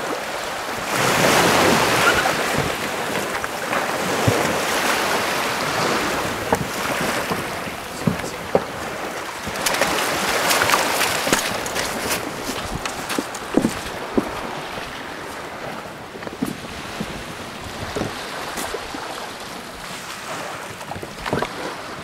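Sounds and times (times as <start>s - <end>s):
water sloshing and splashing: 0.0s - 22.0s
wind on microphone: 0.0s - 22.0s.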